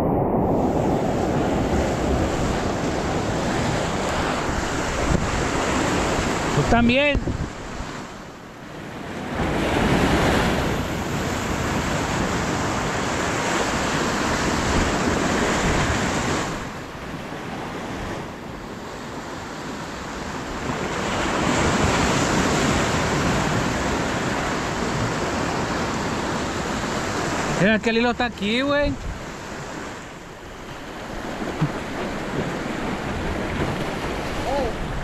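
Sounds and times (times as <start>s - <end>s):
surf breaking over rocks: 0.0s - 8.2s, 9.0s - 35.0s
wind on microphone: 0.0s - 27.6s, 28.3s - 35.0s.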